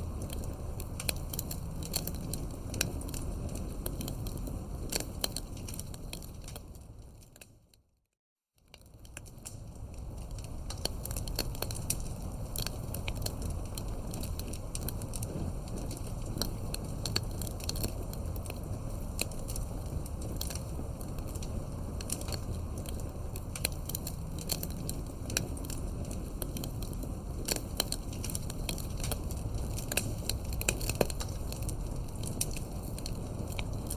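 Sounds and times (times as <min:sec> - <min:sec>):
burning wood popping and snapping: 0:00.0 - 0:07.5, 0:08.7 - 0:33.9
low rumble of flame: 0:00.0 - 0:07.9, 0:08.6 - 0:33.9.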